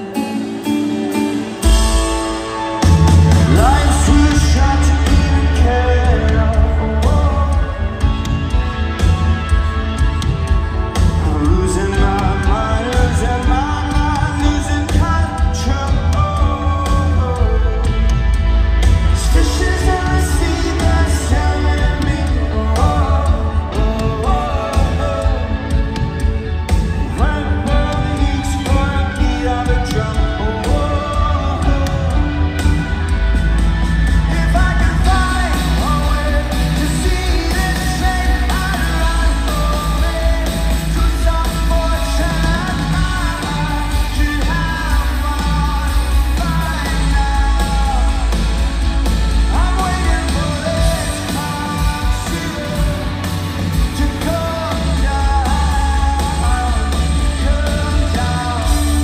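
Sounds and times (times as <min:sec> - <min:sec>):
live rock band playing: 0:00.0 - 0:59.0
person singing: 0:00.0 - 0:59.0.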